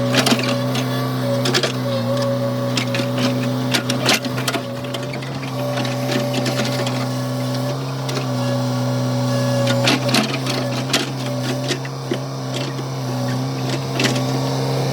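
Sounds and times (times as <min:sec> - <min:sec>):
excavator diesel engine running: 0:00.0 - 0:14.9.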